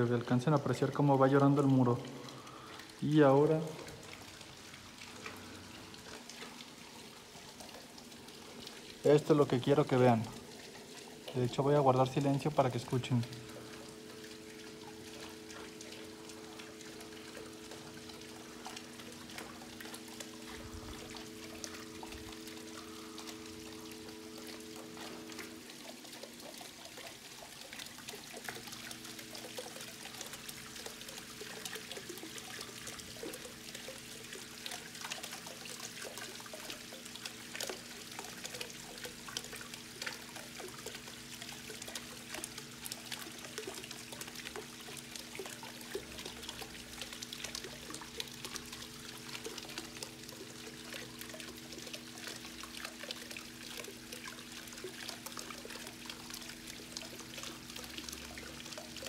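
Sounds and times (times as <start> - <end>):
water trickling and splashing into pool: 0.0 - 59.0.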